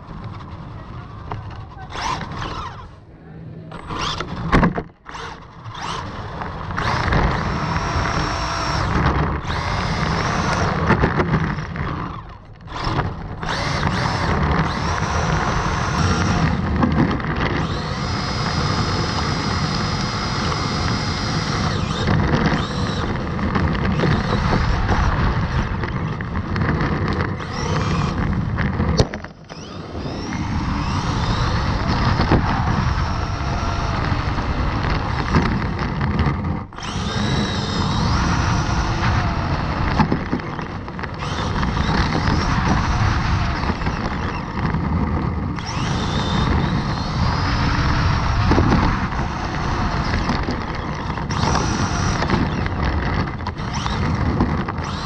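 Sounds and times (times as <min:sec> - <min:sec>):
electric motor whining: 0:00.0 - 0:03.0, 0:03.7 - 0:55.0
tyre noise on rough pavement: 0:00.0 - 0:55.0.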